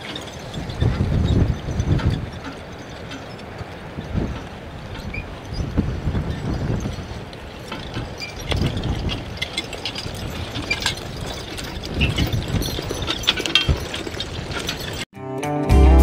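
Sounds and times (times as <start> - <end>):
horse hooves thudding: 0.0 - 15.1
metallic clinking and rattling: 0.0 - 15.1.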